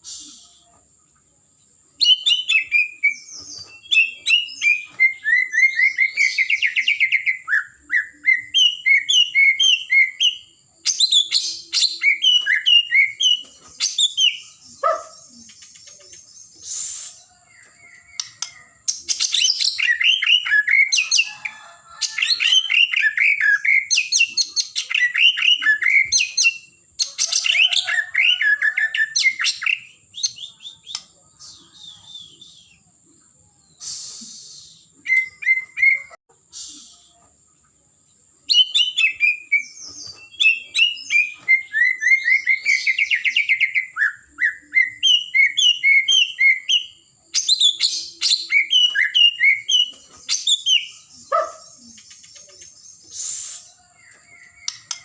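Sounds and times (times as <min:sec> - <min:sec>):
songbird singing whistles and chirps: 0:00.0 - 0:55.0.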